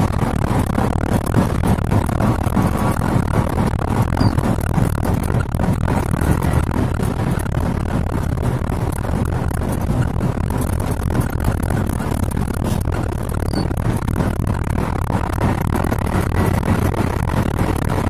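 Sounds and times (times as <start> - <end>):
road noise: 0.0 - 18.0
truck engine drone from cab: 0.0 - 18.0.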